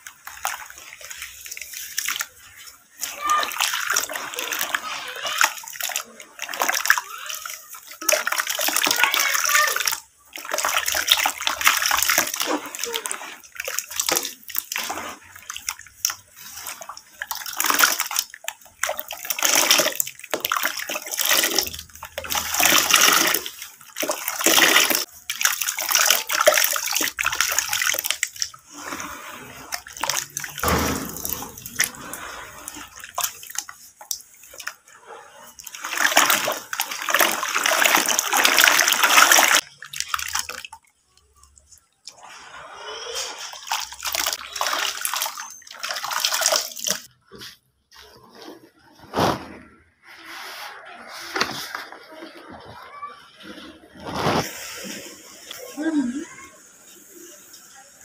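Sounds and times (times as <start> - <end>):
wet slurry squelching: 0.0 - 56.4.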